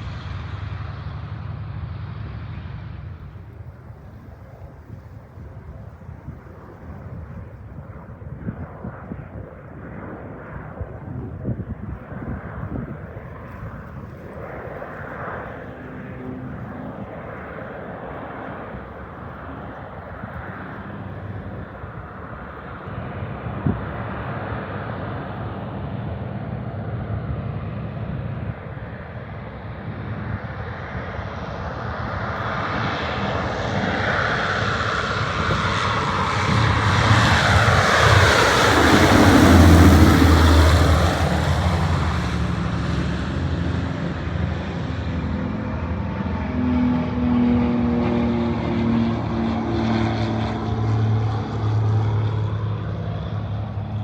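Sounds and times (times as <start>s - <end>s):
propeller plane engine: 0.0s - 54.0s.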